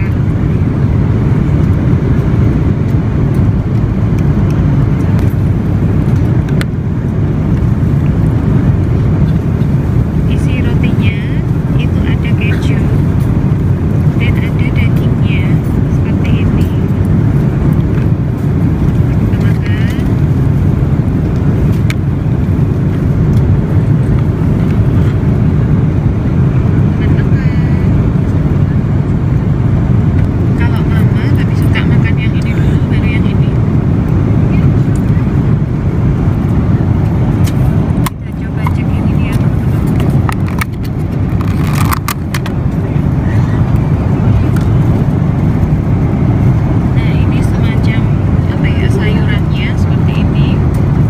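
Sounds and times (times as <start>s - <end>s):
jet engine roar in cabin: 0.0s - 51.0s.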